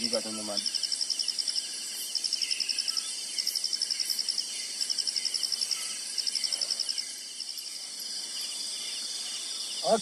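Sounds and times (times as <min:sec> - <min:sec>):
high-pitched insect hiss: 0:00.0 - 0:10.0
night insects chirping: 0:00.0 - 0:10.0.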